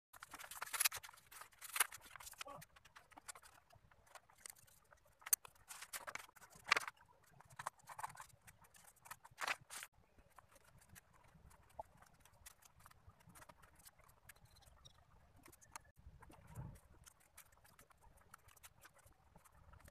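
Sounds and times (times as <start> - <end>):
paper clicking and rustling: 0.2 - 14.8, 15.4 - 19.9.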